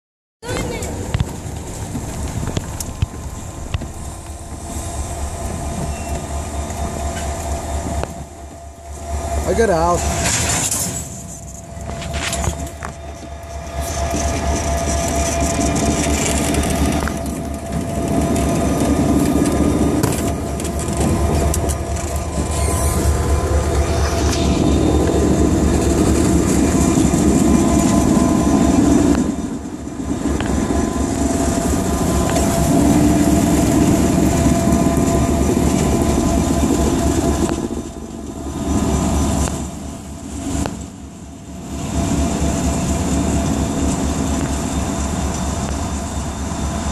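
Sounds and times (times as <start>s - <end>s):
diesel locomotive running: 0.4s - 46.9s
freight cars rumbling on rails: 0.4s - 46.9s.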